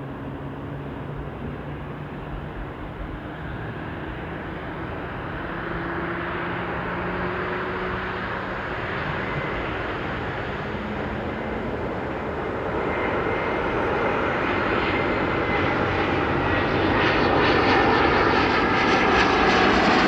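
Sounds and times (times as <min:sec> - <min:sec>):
jet airliner engine rumble: 0:00.0 - 0:20.0.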